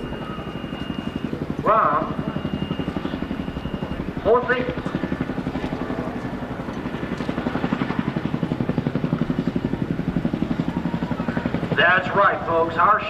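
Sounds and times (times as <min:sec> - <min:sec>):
helicopter rotors chopping: 0:00.0 - 0:13.0.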